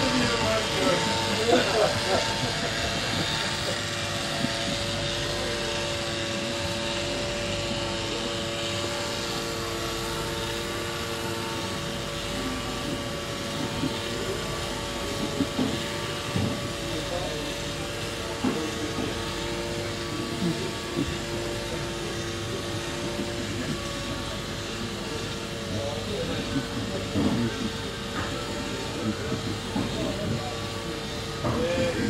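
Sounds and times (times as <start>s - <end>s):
mechanical drone with held tones: 0.0s - 32.0s.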